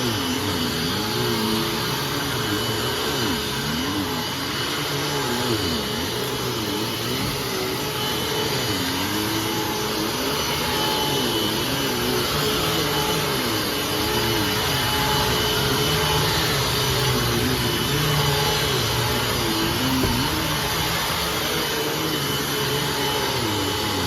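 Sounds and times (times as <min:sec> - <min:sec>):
vacuum cleaner motor whine: 0:00.0 - 0:24.0.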